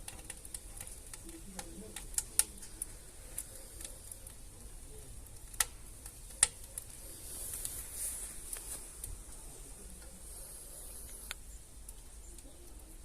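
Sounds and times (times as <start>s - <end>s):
fire hissing: 0.0s - 13.0s
wood fire crackling and popping: 0.0s - 13.0s.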